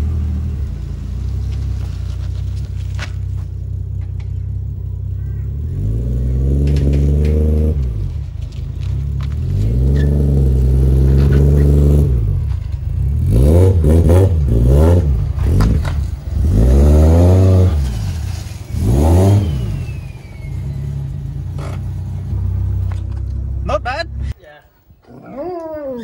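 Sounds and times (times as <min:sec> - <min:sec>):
car engine revving and idling: 0:00.0 - 0:24.4.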